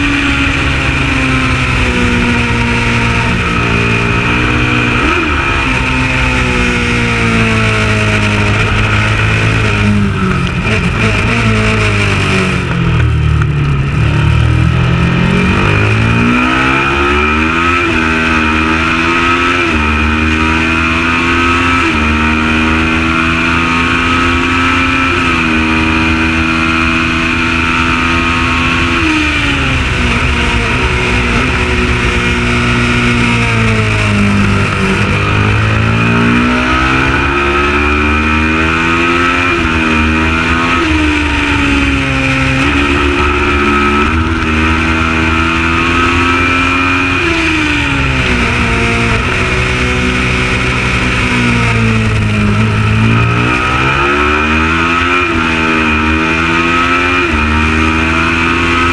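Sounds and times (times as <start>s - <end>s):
racing motorcycle engine revving: 0.0s - 58.9s.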